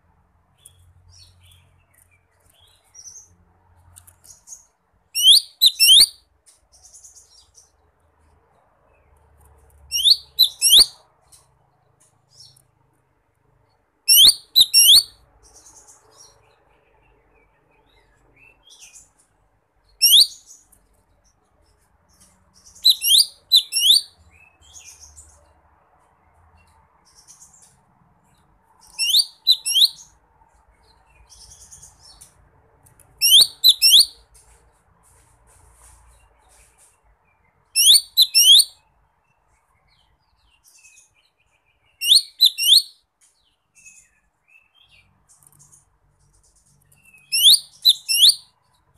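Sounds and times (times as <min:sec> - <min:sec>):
bird chirping: 0:00.4 - 0:48.9.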